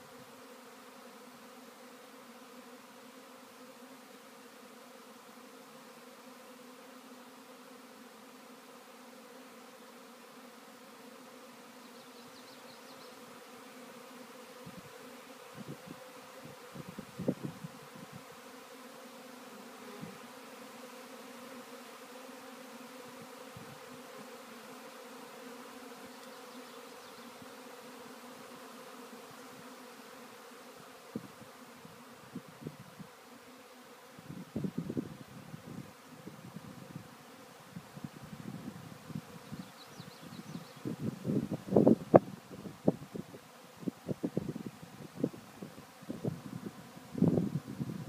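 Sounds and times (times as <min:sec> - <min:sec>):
swarming insects buzzing: 0:00.0 - 0:48.0.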